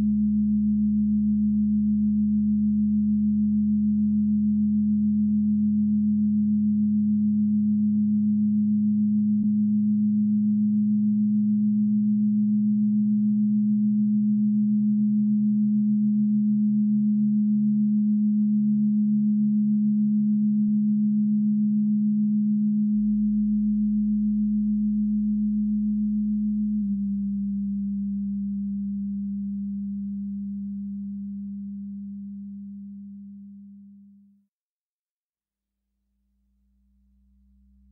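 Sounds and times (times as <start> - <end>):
electronic drone of low sine tones: 0.0 - 34.4, 36.4 - 37.9.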